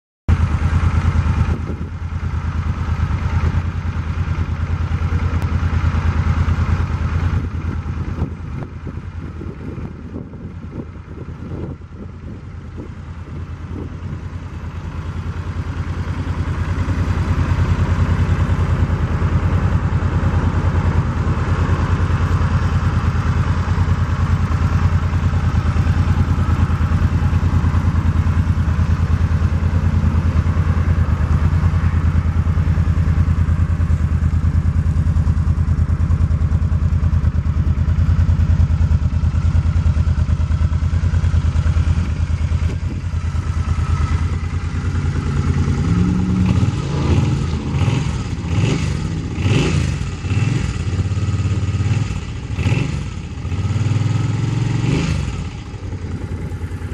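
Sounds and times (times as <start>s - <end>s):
motorcycle engine idling: 0.3s - 56.9s.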